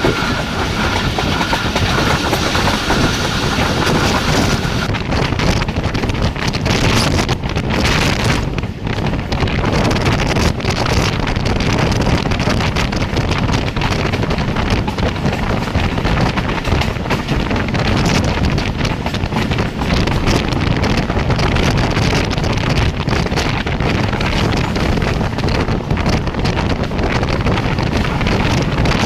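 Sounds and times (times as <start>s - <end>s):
train wheels rumbling on rails: 0.0s - 29.0s
wind rushing over microphone: 0.0s - 29.0s.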